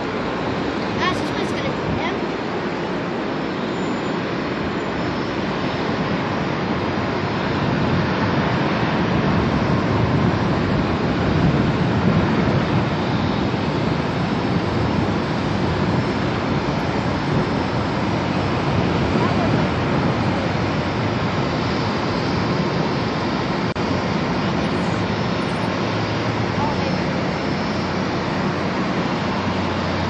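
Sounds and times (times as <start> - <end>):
distant jet engines deep rumble: 0.0 - 30.0.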